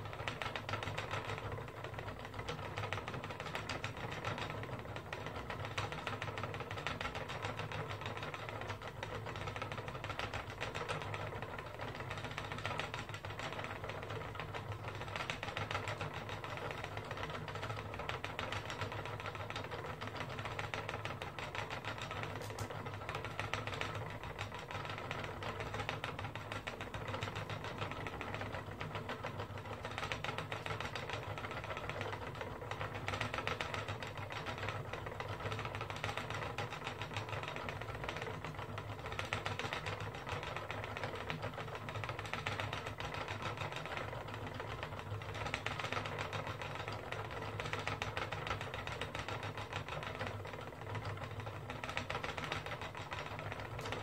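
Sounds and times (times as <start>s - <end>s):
spinning wheel clicking and whirring: 0.0s - 54.0s.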